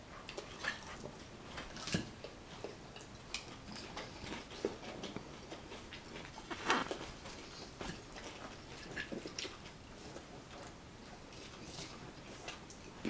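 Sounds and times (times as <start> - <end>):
person chewing crisp leaves: 0.2 - 13.0.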